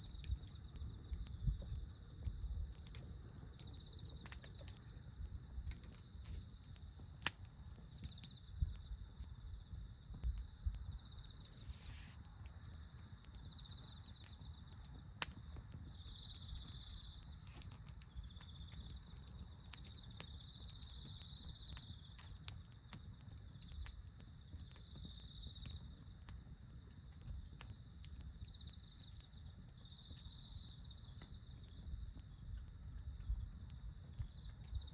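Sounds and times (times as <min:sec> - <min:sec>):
campfire crackling and popping: 0:00.0 - 0:34.9
crickets chirping: 0:00.0 - 0:34.9.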